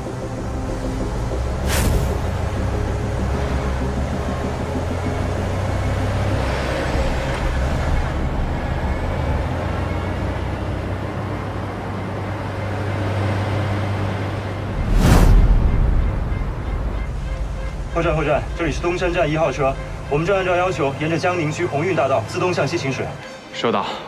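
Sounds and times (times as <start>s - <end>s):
vehicle engine rumble: 0.0s - 23.1s
road noise: 0.0s - 24.0s.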